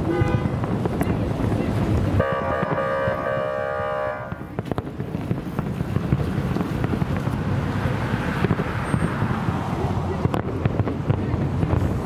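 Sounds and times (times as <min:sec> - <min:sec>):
fireworks bursting and crackling: 0:00.0 - 0:03.6, 0:04.2 - 0:12.0.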